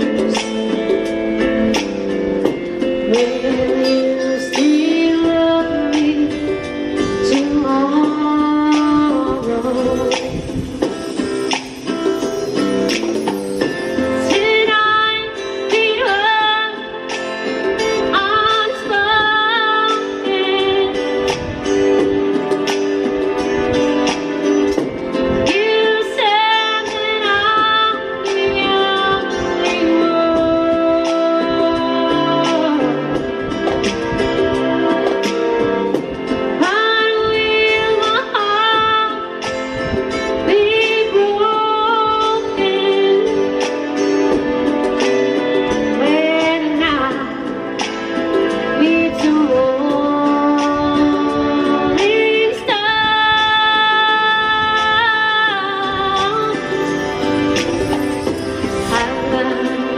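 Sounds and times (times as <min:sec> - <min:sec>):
guitar backing track: 0:00.0 - 0:59.9
woman singing karaoke: 0:00.0 - 0:59.9.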